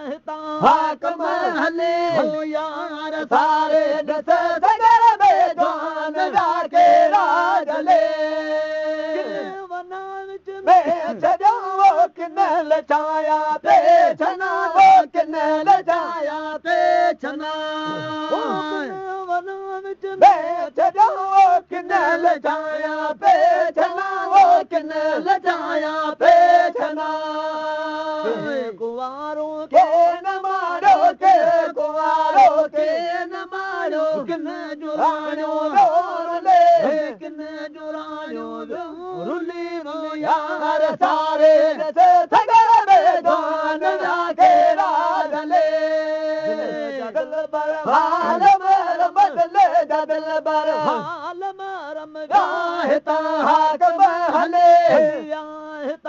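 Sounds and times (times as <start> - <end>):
men chanting devotional song: 0.0 - 56.0.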